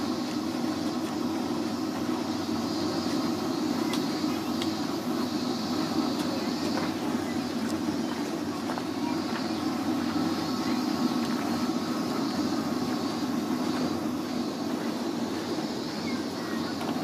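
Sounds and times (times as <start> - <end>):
faint steady hum: 0.0 - 17.0
low background rumble: 0.0 - 17.0.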